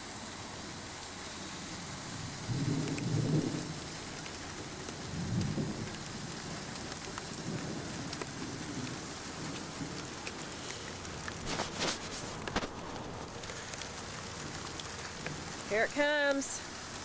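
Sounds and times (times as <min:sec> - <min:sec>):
steady rain falling: 0:00.0 - 0:17.0
thunder rumbling: 0:01.8 - 0:16.0.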